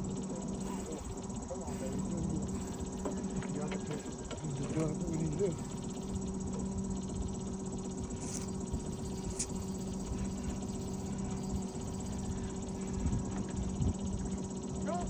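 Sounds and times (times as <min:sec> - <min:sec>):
high whine: 0:00.0 - 0:14.4
boat motor hum: 0:00.0 - 0:14.9.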